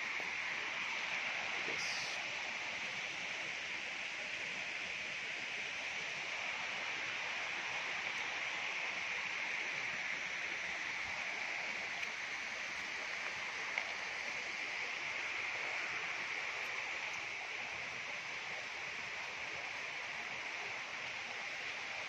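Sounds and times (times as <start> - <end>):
stream rushing: 0.0 - 22.0.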